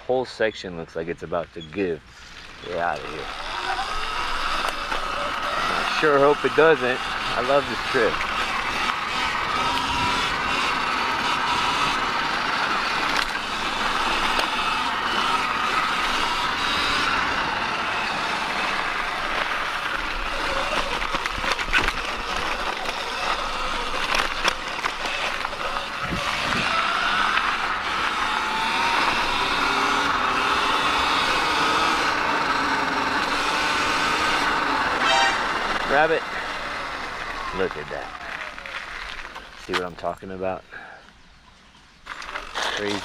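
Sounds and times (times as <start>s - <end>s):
tyres on dirt trail: 0.0s - 43.0s
electric motor whine: 2.5s - 39.4s.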